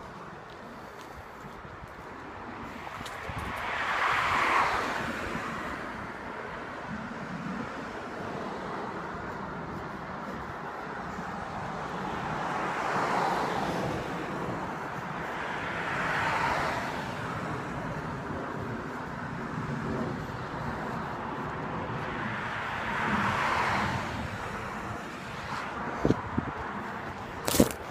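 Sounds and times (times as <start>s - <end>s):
cars passing: 0.0s - 27.9s
steady traffic hum: 0.0s - 27.9s.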